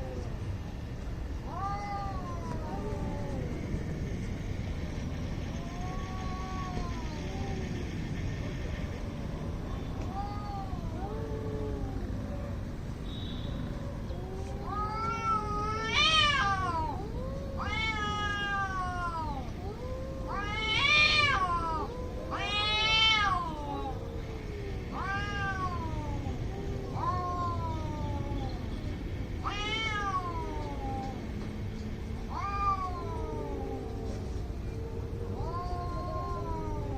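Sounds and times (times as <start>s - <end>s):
cats yowling: 1.3s - 12.7s, 13.8s - 36.9s.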